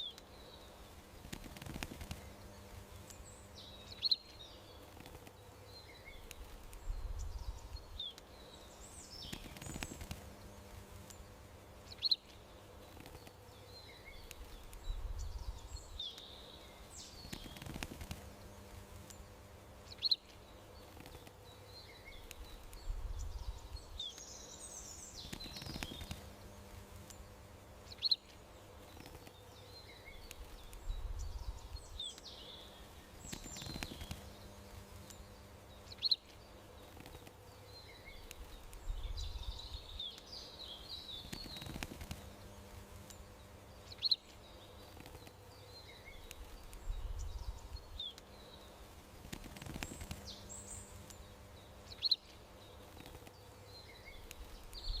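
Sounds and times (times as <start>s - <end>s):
faint steady hum: 0.0s - 55.0s
small birds chirping: 0.0s - 55.0s.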